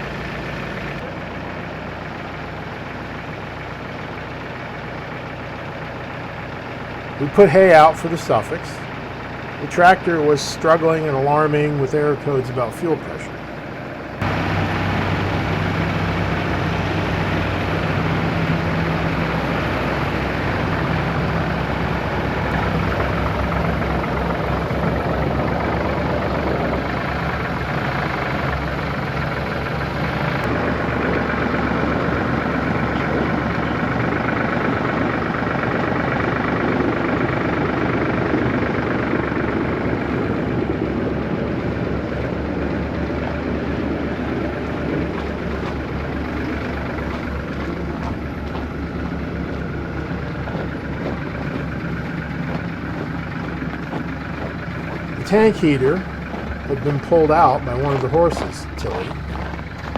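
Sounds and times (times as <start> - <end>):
tractor diesel engine struggling: 0.0 - 59.9.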